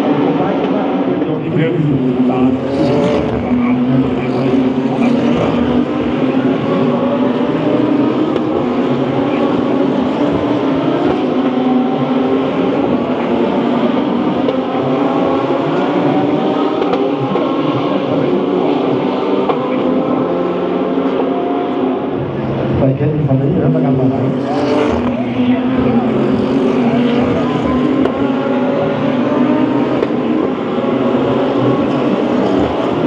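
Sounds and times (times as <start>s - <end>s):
race car engines droning: 0.0s - 33.0s.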